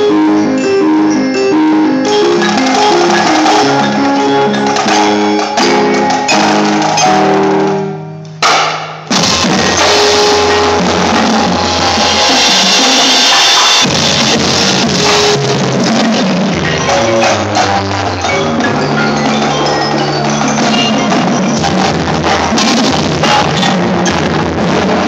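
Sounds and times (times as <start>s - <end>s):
mallet keyboard melody: 0.0s - 8.5s, 9.1s - 24.7s
drumline snares and bass drums: 2.1s - 25.0s.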